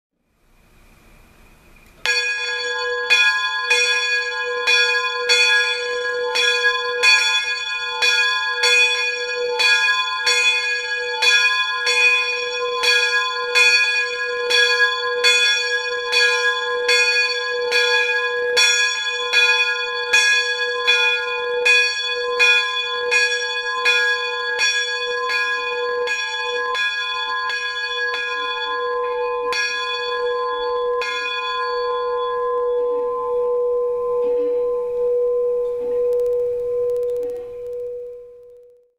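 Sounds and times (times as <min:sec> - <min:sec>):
locomotive bell clanging: 0:02.0 - 0:37.6.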